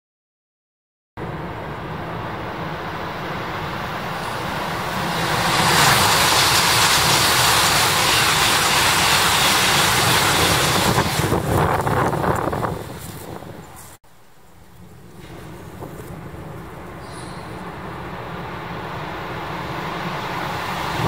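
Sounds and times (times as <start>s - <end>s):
high-speed train passing: 1.2s - 21.0s.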